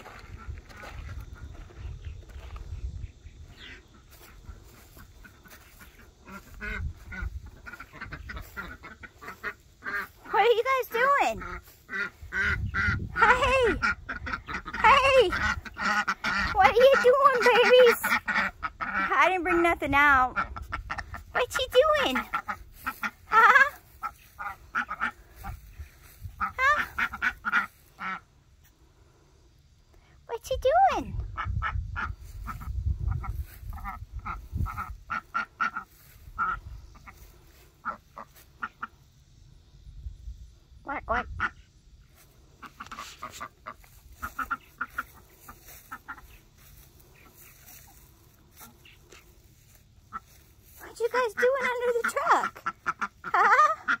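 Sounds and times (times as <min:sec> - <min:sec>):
ducks quacking: 0:00.0 - 0:29.8, 0:30.7 - 0:39.5, 0:40.7 - 0:54.0.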